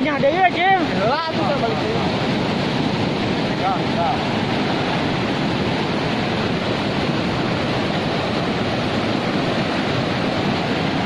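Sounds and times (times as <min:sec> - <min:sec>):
river in flood rushing: 0:00.0 - 0:11.0.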